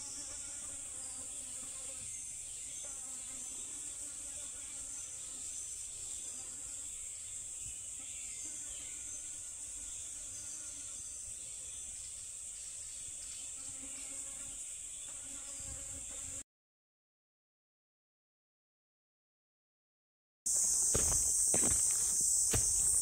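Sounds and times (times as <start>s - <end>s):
insects buzzing: 0.0s - 16.4s, 20.5s - 23.0s.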